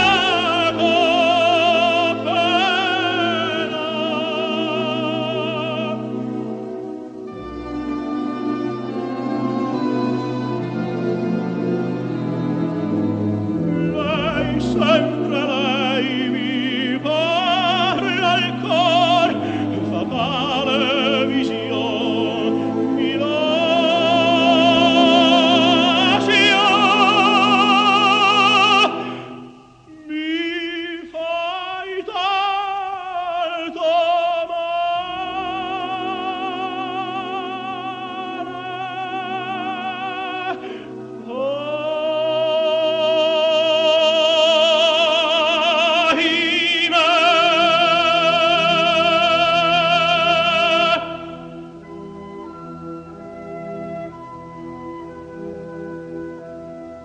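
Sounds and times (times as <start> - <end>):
operatic tenor singing: 0.0 - 57.0
symphony orchestra: 0.0 - 57.0.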